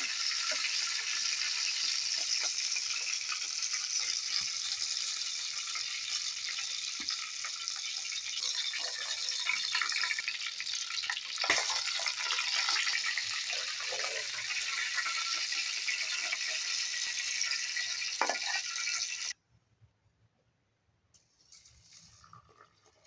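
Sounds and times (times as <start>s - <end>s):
chicken frying in hot oil: 0.0s - 19.4s.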